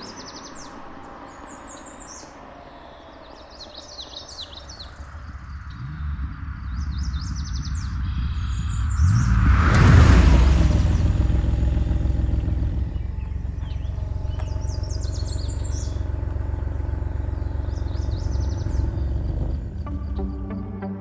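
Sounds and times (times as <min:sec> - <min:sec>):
car passing by: 0:00.0 - 0:20.1
birds chirping: 0:00.0 - 0:21.0.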